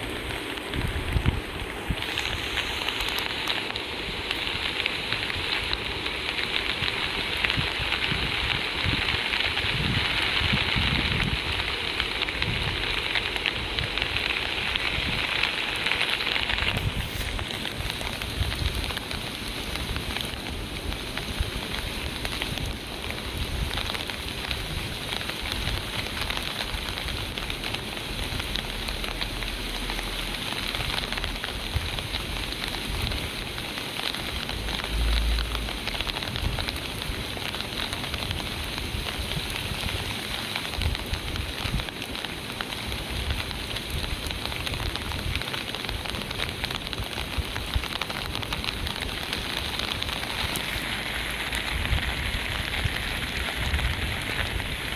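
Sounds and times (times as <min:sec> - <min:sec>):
rain falling in forest: 0:00.0 - 0:54.9.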